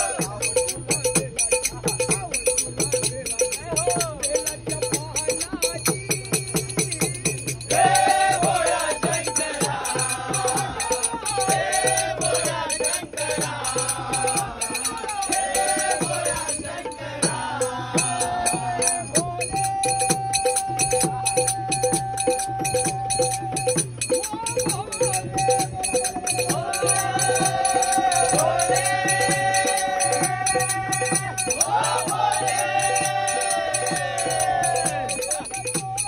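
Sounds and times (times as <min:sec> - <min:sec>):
hand cymbals clashing: 0:00.0 - 0:36.0
hand drum: 0:00.0 - 0:36.0
voices singing: 0:00.0 - 0:36.0.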